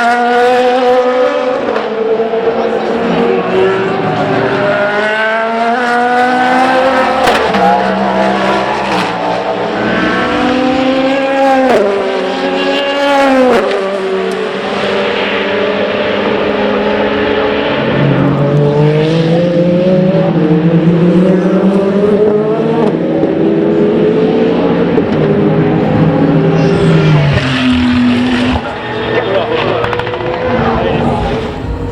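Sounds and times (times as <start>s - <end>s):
race car engines accelerating past: 0.0s - 31.9s.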